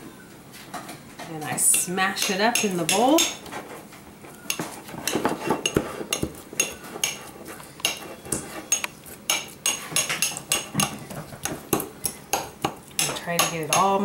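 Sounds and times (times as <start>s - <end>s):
wet food being mashed: 2.2s - 14.0s.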